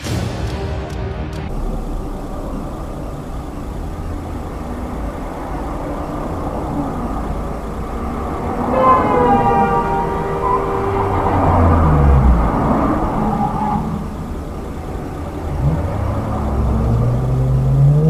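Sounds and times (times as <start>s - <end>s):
vehicle road and engine rumble: 1.4s - 18.0s
loud pitched warning tone: 1.5s - 18.0s.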